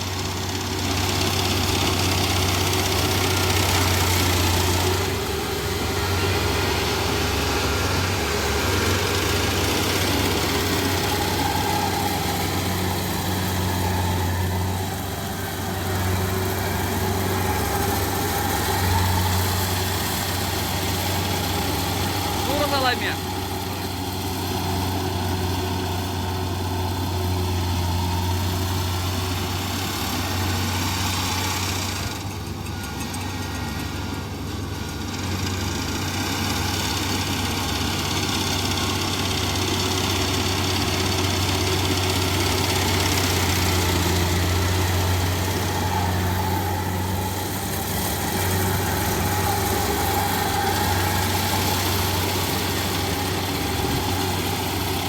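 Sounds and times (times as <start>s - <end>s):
combine harvester engine humming: 0.0s - 55.0s.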